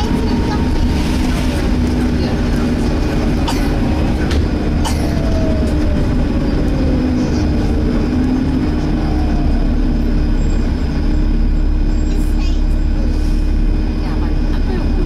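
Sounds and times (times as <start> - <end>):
bus engine and road rumble: 0.0 - 15.0
engine cooling fan whine: 0.0 - 15.0.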